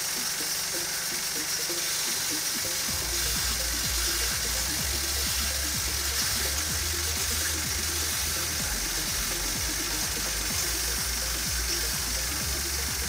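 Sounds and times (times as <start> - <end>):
electronic music with steady beat: 0.0 - 13.0
pressure washer spraying water: 0.0 - 13.0.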